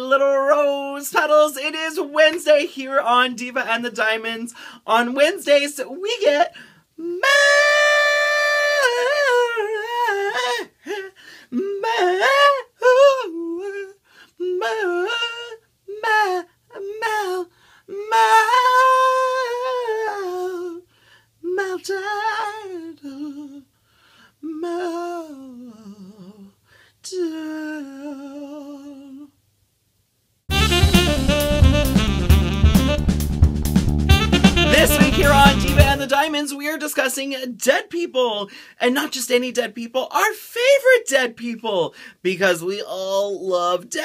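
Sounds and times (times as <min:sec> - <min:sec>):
man singing unaccompanied: 0:00.0 - 0:23.7, 0:24.4 - 0:29.4, 0:34.2 - 0:44.0.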